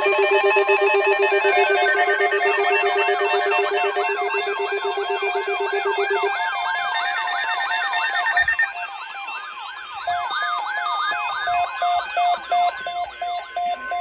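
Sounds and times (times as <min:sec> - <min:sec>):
electronic siren yelping: 0:00.0 - 0:13.2
beeping alarm: 0:00.0 - 0:14.0
steady electronic alarm tones: 0:00.0 - 0:14.0.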